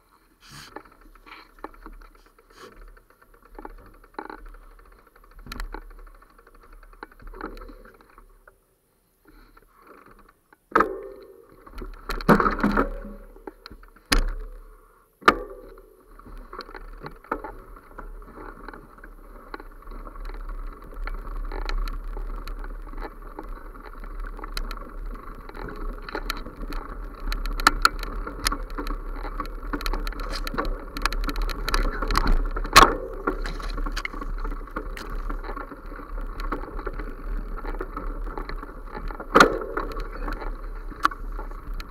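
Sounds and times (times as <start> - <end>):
bicycle rattling on dirt trail: 0.0 - 41.9.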